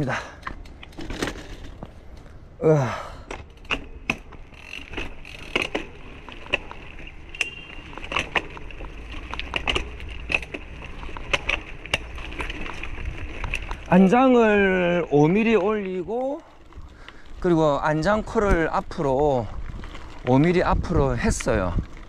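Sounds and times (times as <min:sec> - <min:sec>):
bike clicks and knocks: 0:00.0 - 0:02.5, 0:03.1 - 0:22.0
bike tyres crunching on dirt: 0:00.0 - 0:22.0.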